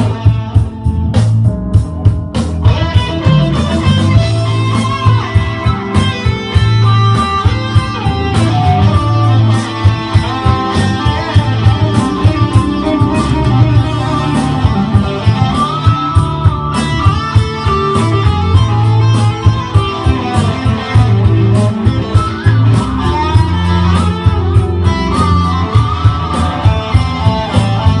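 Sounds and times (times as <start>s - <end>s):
electric guitar lead lines: 0.0s - 28.0s
low bass line: 0.0s - 28.0s
regular beat: 0.0s - 28.0s.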